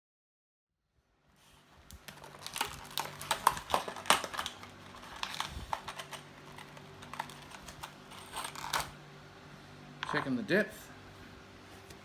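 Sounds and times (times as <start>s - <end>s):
faint steady hum: 0.8s - 12.0s.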